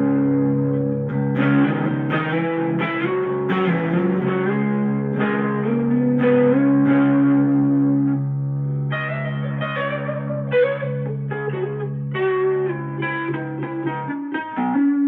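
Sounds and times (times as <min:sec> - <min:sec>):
clean electric guitar notes: 0:00.0 - 0:15.0.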